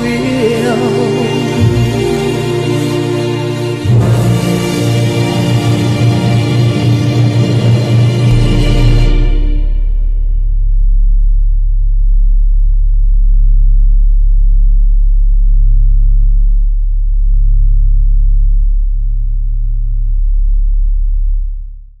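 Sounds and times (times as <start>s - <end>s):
deep bass drone: 0.0s - 22.0s.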